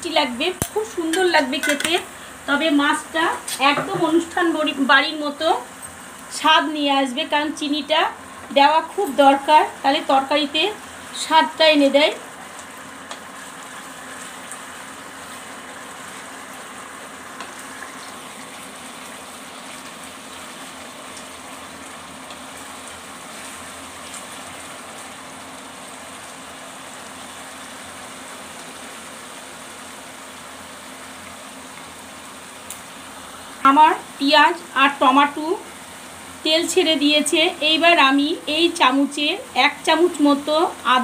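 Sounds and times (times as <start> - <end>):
paste sizzling in oil: 0.2 - 41.0.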